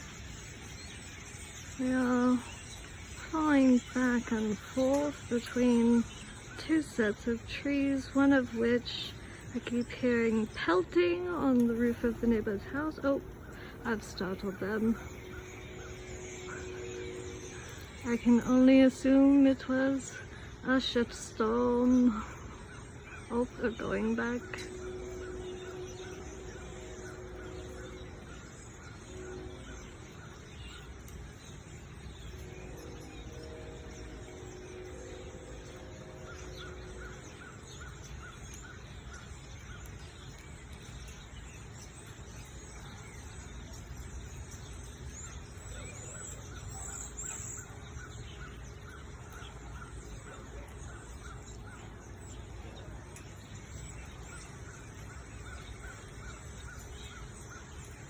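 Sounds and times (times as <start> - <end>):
flock of birds chattering: 0.0 - 58.0.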